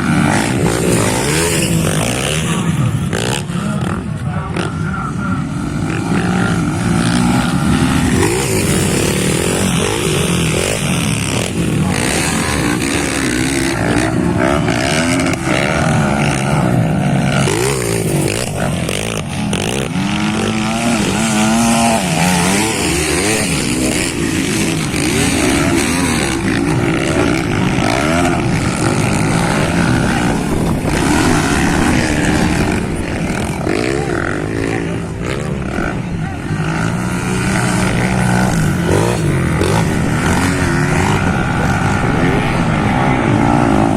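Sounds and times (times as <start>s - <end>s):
motocross motorcycle engines racing: 0.0s - 43.9s.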